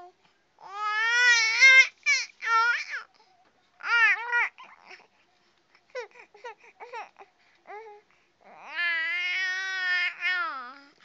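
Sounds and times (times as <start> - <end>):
baby babbling and whining: 0.0 - 5.2, 5.8 - 11.0.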